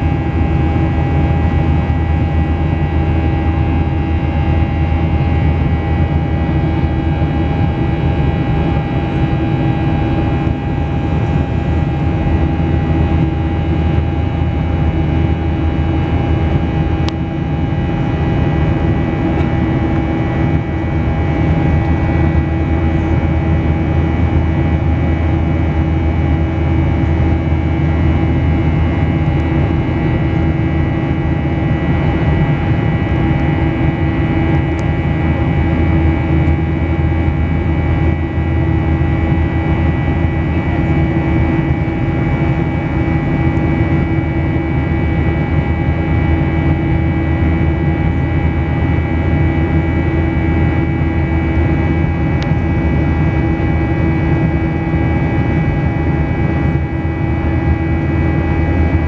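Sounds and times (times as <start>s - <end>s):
constant engine tones: 0.0s - 59.0s
jet engines humming: 0.0s - 59.0s.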